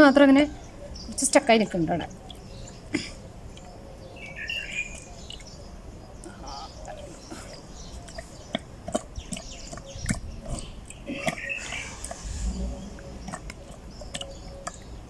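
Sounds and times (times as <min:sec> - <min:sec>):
bird calling: 0:00.4 - 0:15.0.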